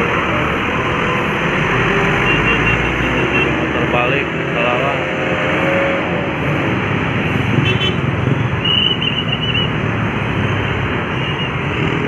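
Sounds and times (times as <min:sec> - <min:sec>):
heavy road traffic: 0:00.0 - 0:12.0.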